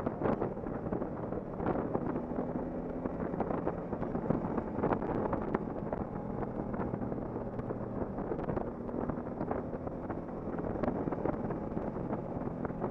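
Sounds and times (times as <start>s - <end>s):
wind buffeting microphone: 0.0s - 12.9s
motorcycle engine running: 0.1s - 12.9s.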